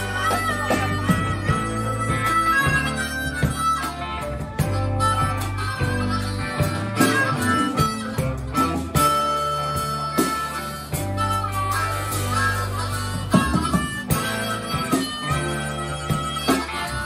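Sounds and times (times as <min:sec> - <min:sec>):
high held lead guitar notes: 0:00.0 - 0:17.0
live rock band playing: 0:00.0 - 0:17.0.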